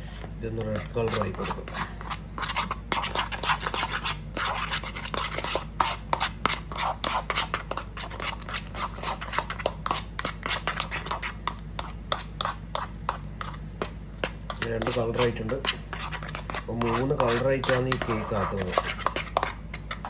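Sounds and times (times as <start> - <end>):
spoon scraping plastic bowl: 0.6 - 13.9, 14.5 - 20.0.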